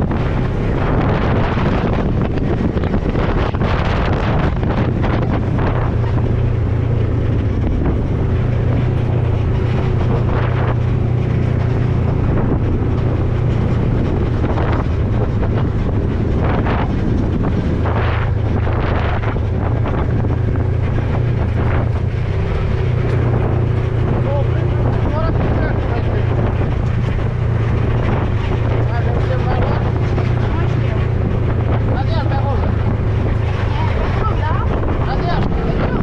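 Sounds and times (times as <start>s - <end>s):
vehicle engine droning: 0.0s - 36.0s
wind buffeting microphone: 0.0s - 36.0s.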